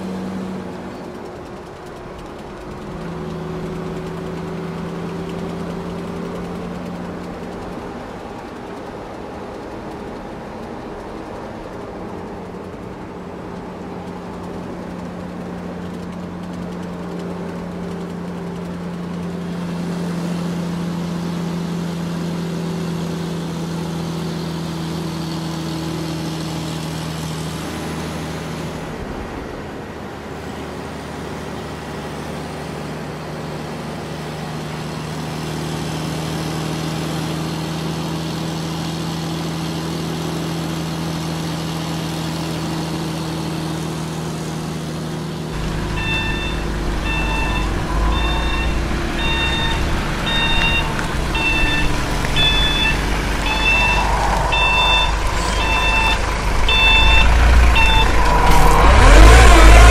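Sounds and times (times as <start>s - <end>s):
vehicle engine running: 0.0s - 29.6s, 34.2s - 59.9s.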